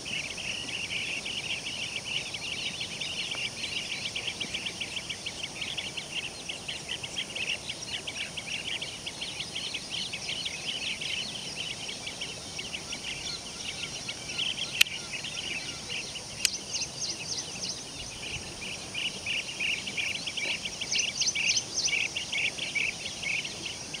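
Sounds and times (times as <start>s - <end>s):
birds calling with trilled notes: 0.0s - 24.0s.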